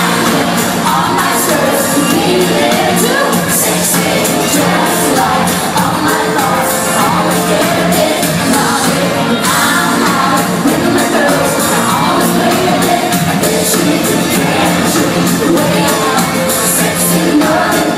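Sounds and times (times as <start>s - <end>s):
live concert music with singer: 0.0s - 17.9s.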